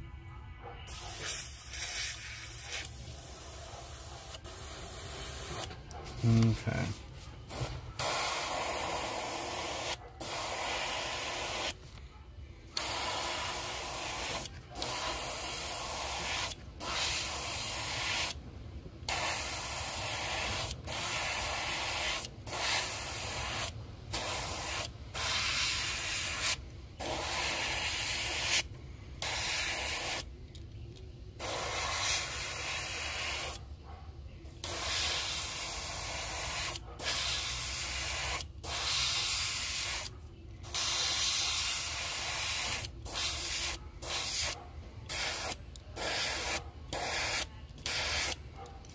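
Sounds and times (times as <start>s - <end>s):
airbrush spraying hiss: 0.9s - 5.7s, 7.5s - 11.8s, 12.8s - 18.4s, 19.1s - 30.3s, 31.4s - 33.6s, 34.6s - 40.1s, 40.7s - 48.4s.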